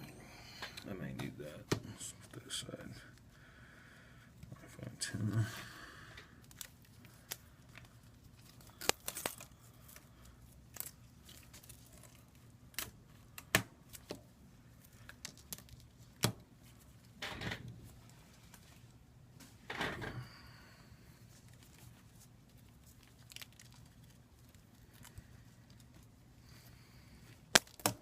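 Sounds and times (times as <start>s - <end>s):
peeling rustling sounds: 4.4s - 28.0s.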